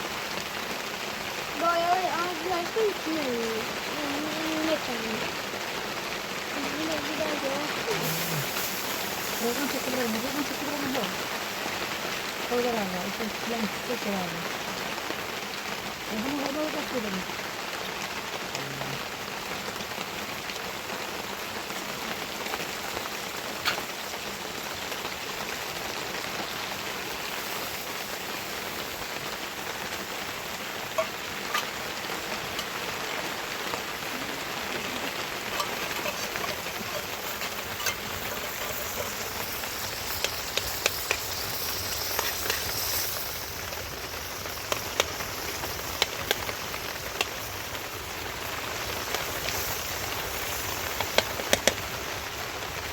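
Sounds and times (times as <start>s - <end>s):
sharp raindrop hits: 0.0s - 52.9s
steady rain falling: 0.0s - 52.9s.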